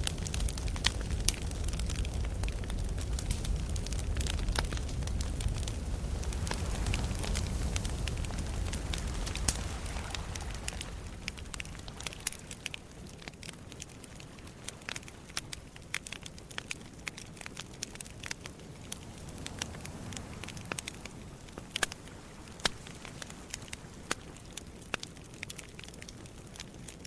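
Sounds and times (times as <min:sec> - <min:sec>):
campfire crackling and popping: 0:00.0 - 0:27.0
sea waves on the shore: 0:00.0 - 0:27.0.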